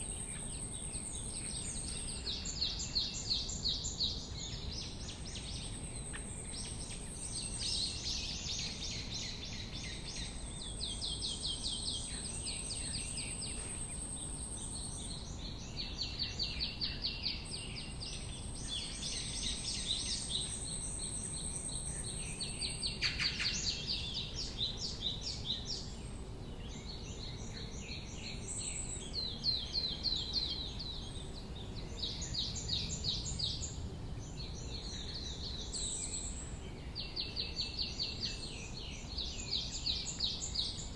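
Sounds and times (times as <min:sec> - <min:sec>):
low outdoor background hum: 0:00.0 - 0:40.9
songbirds singing: 0:00.0 - 0:40.9.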